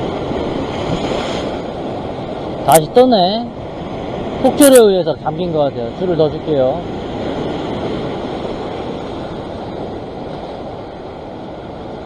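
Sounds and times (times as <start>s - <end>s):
ocean surf washing over rocks: 0.0s - 12.0s.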